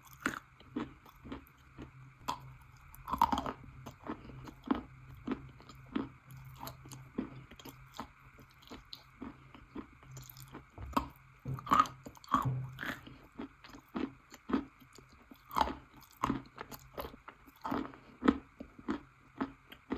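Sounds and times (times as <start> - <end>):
chewing crunchy chalk: 0.0 - 19.9.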